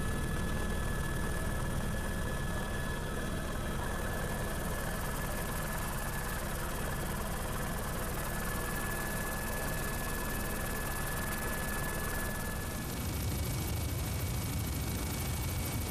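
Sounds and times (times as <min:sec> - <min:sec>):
helicopter rotor and engine drone: 0:00.0 - 0:15.9.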